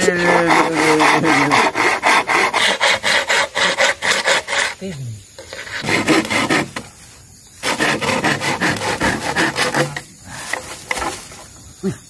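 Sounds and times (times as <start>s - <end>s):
blade rasping against bamboo: 0.0s - 4.8s, 5.4s - 6.9s, 7.6s - 11.3s.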